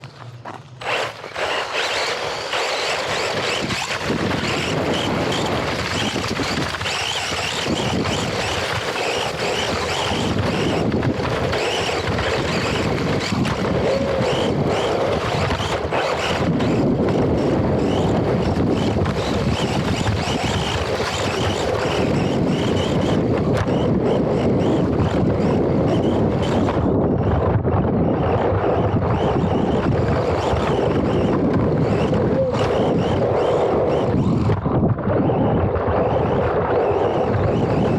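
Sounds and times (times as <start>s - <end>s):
rc car rumbling over dirt: 0.0s - 37.9s
wind buffeting microphone: 0.0s - 37.9s.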